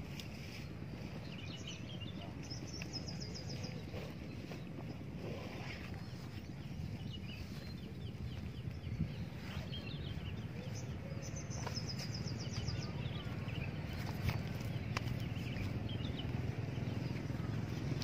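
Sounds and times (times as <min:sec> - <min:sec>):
low steady rumble: 0:00.0 - 0:18.0
small birds chirping: 0:00.0 - 0:18.0.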